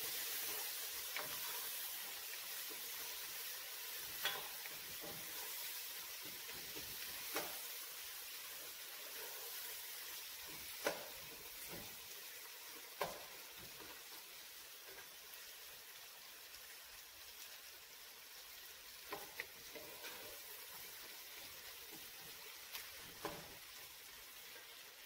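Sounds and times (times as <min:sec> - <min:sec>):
onions sizzling in a pot: 0:00.0 - 0:25.0.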